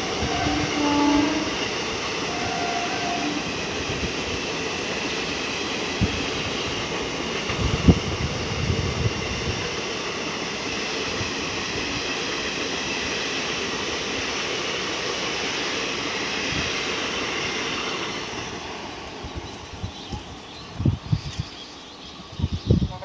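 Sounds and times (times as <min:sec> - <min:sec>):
train coaches rolling past: 0:00.0 - 0:23.0.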